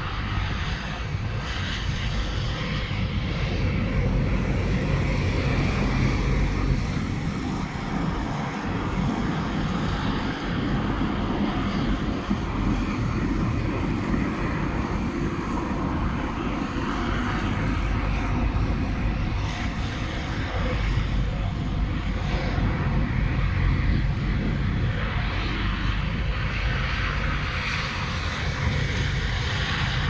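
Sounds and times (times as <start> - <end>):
blizzard wind blowing: 0.0 - 30.0
wind buffeting microphone: 0.0 - 30.0.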